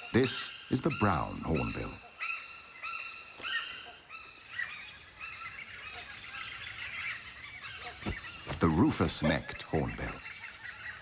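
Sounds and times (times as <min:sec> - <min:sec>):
hornbills yelping calls: 0:00.0 - 0:11.0.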